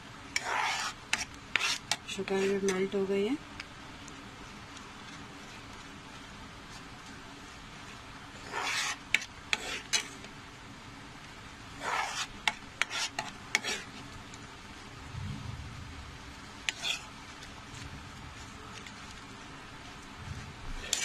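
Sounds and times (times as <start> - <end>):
spoon stirring thick glaze in pan: 0.3 - 3.1, 4.0 - 10.4, 11.2 - 15.0, 16.2 - 21.0.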